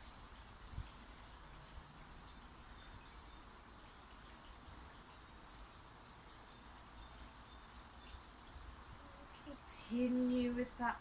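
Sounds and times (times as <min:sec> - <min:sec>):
distant birds chirping: 0:00.0 - 0:10.8.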